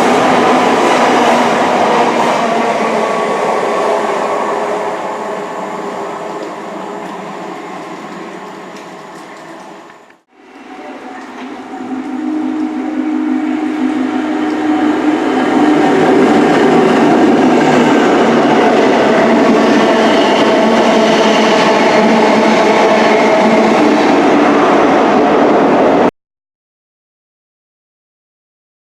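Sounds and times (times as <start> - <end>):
passenger train passing: 0.0 - 26.1.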